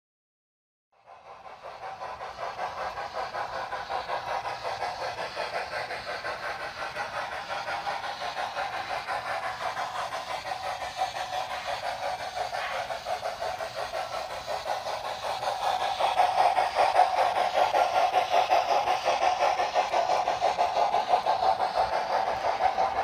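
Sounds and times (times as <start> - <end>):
model steam locomotive chuffing: 1.0 - 23.0.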